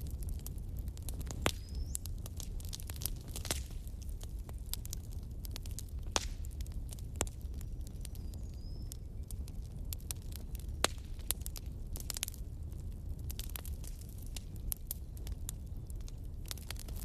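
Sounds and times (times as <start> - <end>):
burning wood crackling: 0.0 - 17.0
low rumble of flames: 0.0 - 17.0.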